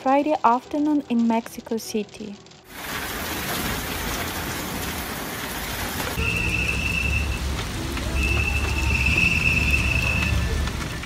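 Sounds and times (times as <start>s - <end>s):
hail and rain falling: 0.0s - 11.0s.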